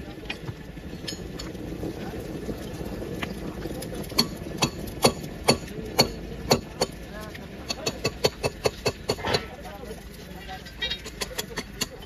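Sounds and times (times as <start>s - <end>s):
thermite burning with steady rush: 0.0s - 12.0s.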